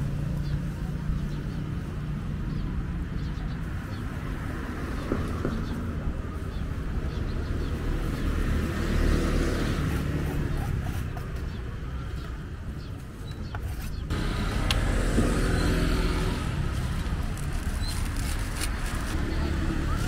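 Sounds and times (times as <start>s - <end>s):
vehicle engines running: 0.0s - 20.0s.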